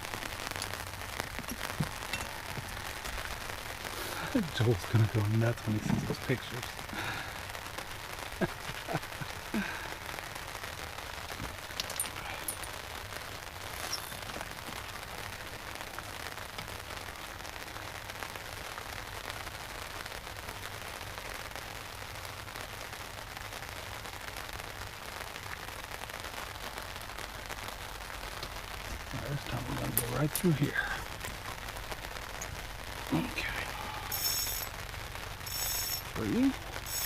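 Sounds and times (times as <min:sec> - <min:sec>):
rain hissing on water: 0:00.0 - 0:37.0.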